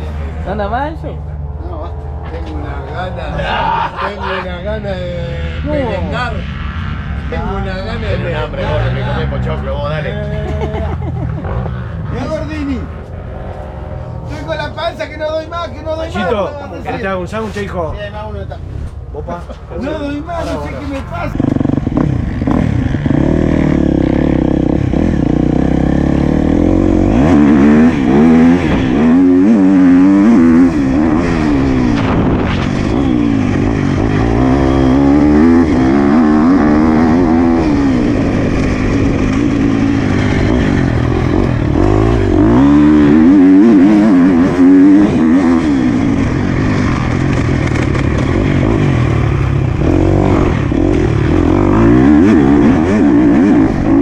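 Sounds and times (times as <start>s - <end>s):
motocross bike engine revving: 0.0s - 17.2s, 19.6s - 54.0s.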